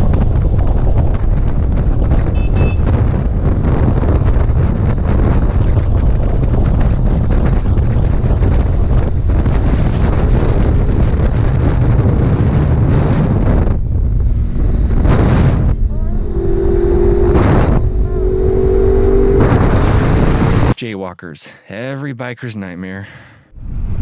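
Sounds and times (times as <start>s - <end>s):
motorcycle engine and road noise: 0.0s - 20.8s
wind rushing over microphone: 0.0s - 20.8s, 23.5s - 24.0s.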